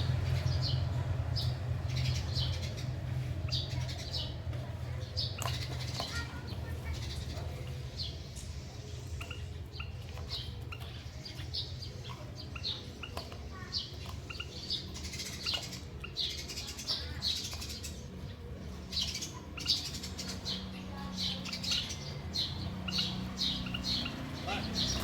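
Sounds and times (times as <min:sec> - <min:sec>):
finches chirping: 0:00.0 - 0:25.0.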